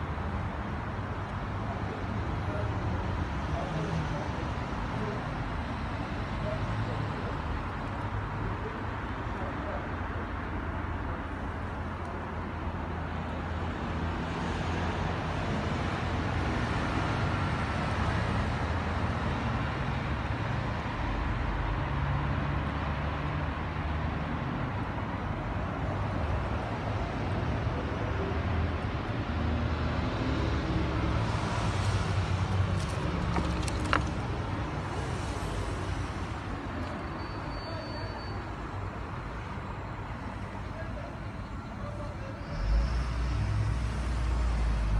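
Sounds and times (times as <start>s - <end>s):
low rumble of road traffic: 0.0s - 44.9s.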